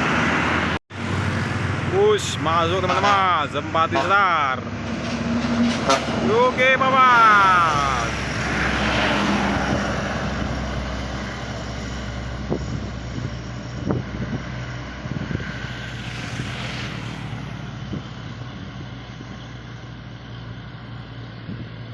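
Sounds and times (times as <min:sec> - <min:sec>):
bus diesel engine drone: 0:00.0 - 0:21.9.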